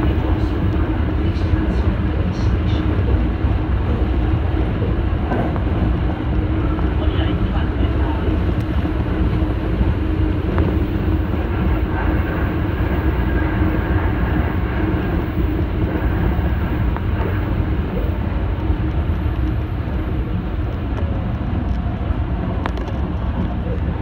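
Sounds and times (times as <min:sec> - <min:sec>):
continuous train hum: 0:00.0 - 0:24.0
train wheels rumbling on rails: 0:00.0 - 0:24.0.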